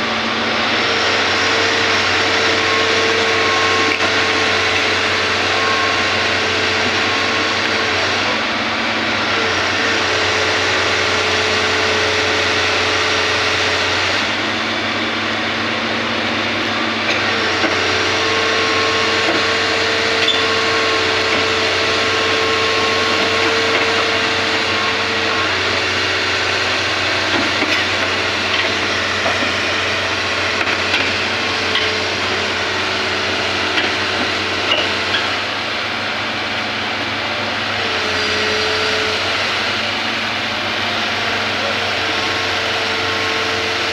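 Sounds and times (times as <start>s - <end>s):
excavator diesel engine: 0.0s - 43.9s
hydraulic whine: 0.0s - 43.9s.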